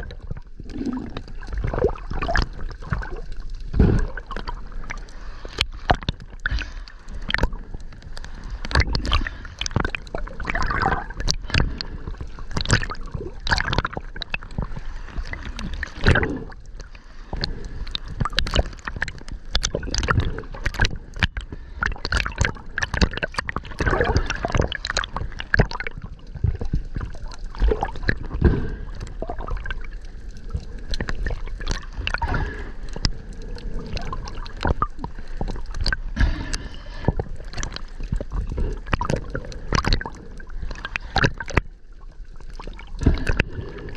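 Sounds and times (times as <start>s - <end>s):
water gurgling underwater: 0.0s - 43.9s.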